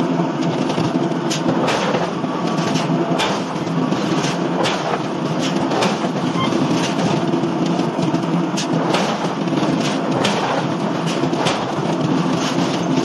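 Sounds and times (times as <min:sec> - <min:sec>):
heavy forging machinery: 0:00.0 - 0:13.0.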